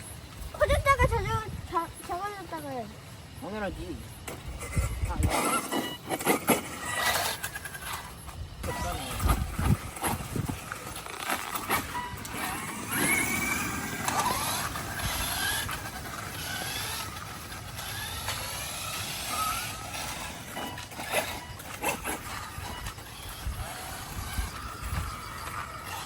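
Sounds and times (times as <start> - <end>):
electric motor whining: 3.8 - 26.0.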